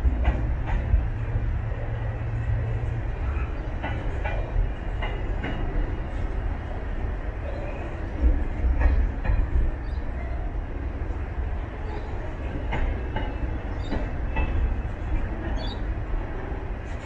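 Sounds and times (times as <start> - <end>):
wheels clacking over rail joints: 0.0 - 6.5, 7.5 - 10.0, 11.8 - 17.0
train wheels rumbling on rails: 0.0 - 17.0.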